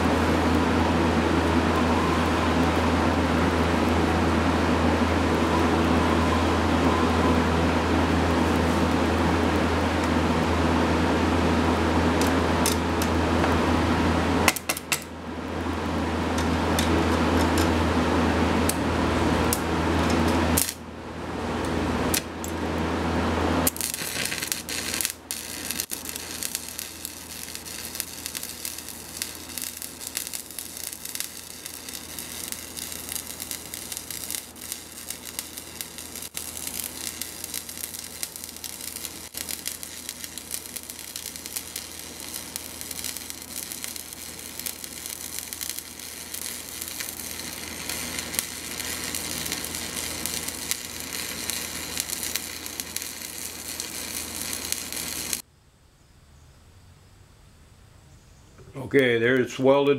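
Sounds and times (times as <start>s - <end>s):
arc welding crackle: 0.0s - 55.4s
steady low hum: 0.0s - 59.9s.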